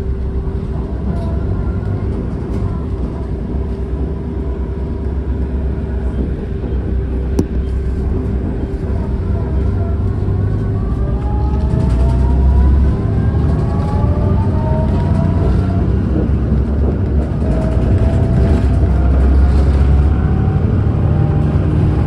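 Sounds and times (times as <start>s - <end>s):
vehicle cabin rumble and hum: 0.0s - 22.0s.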